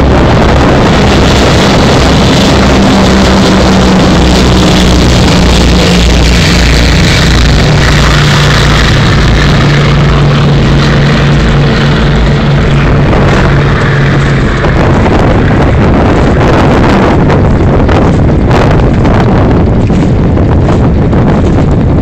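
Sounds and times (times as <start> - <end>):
choppy water: 0.0 - 22.0
low engine hum: 0.0 - 22.0
wind buffeting microphone: 0.0 - 22.0.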